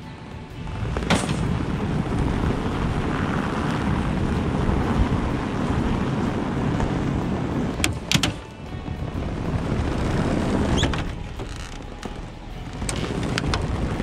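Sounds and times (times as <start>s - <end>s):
truck engine running: 0.0s - 14.0s
wind buffeting microphone: 0.4s - 14.0s.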